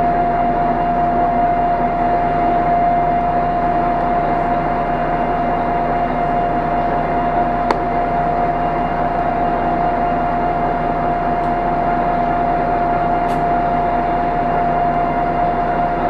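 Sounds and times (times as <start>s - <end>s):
bus diesel engine idling: 0.0s - 16.0s.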